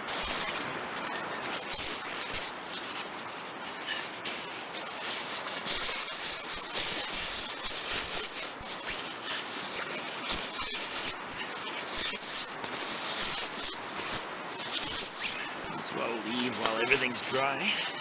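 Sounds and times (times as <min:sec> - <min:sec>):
gear rustling and rubbing: 0:00.0 - 0:18.0.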